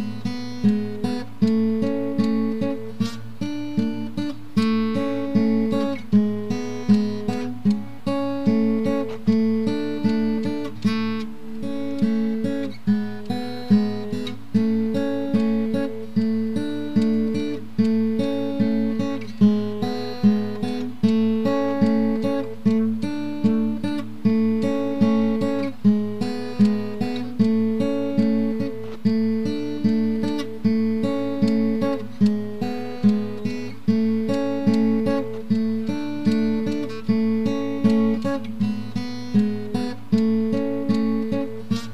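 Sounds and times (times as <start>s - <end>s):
acoustic guitar plucking: 0.0s - 41.9s.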